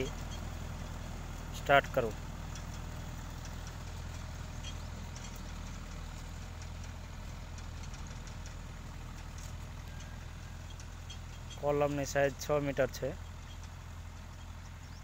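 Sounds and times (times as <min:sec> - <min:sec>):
small tractor engine running: 0:00.0 - 0:15.0.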